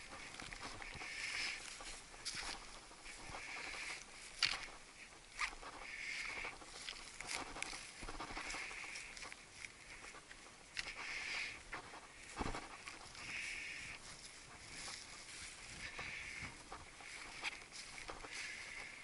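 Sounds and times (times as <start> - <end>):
boots swishing through vegetation: 0.0 - 19.0.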